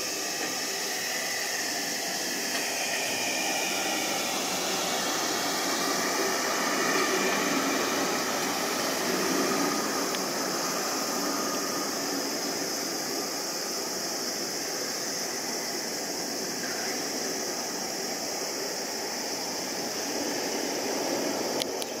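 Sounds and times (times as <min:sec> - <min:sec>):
high-pitched jet hiss: 0:00.0 - 0:22.0
jet engines rushing: 0:00.0 - 0:22.0.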